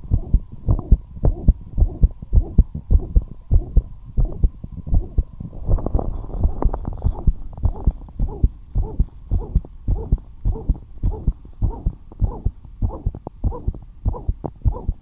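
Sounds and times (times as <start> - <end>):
fast heartbeat: 0.0 - 15.0.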